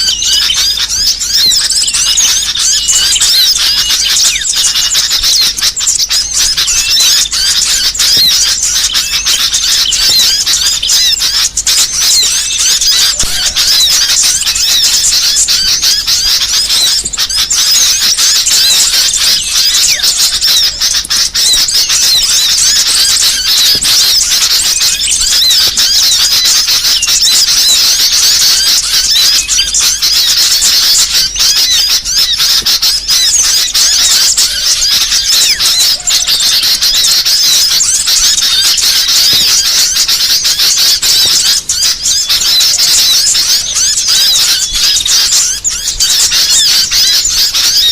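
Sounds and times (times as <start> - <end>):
small songbirds chirping: 0.0 - 47.9.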